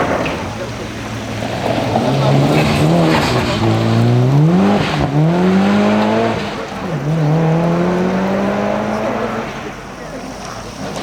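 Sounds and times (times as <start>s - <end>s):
gear changes: 0.0s - 11.0s
rally car engine accelerating: 0.0s - 11.0s.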